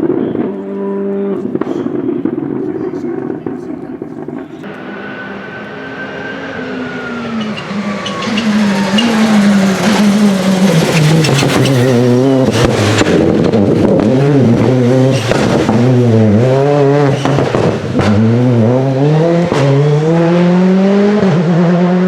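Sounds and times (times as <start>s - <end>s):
sharp exhaust cracks: 0.0s - 18.8s
rally car engine revving: 0.0s - 22.0s.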